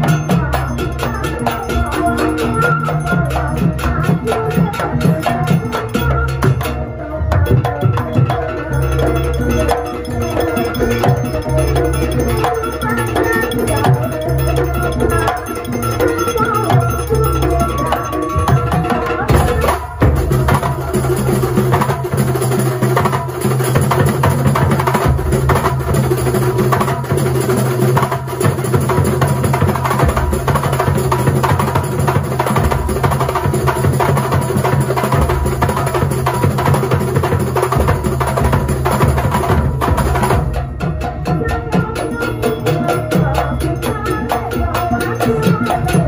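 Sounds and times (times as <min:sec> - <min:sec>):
fast dense drumming: 0:00.0 - 0:46.0.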